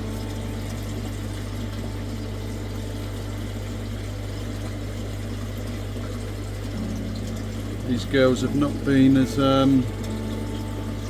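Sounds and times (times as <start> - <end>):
pond filter pump humming: 0.0 - 11.0.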